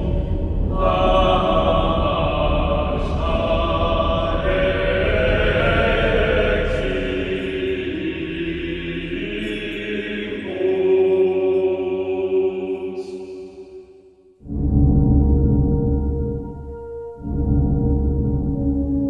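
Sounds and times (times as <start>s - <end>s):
low drone: 0.0s - 13.3s, 14.4s - 19.0s
choir chanting: 0.0s - 19.0s.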